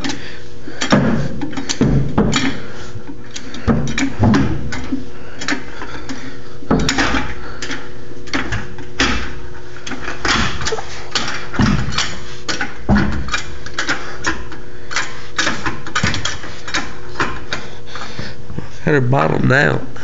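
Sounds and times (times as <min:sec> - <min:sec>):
faint steady hum: 0:00.0 - 0:20.0
floor jack clanking and rattling: 0:00.8 - 0:02.8, 0:03.4 - 0:17.7.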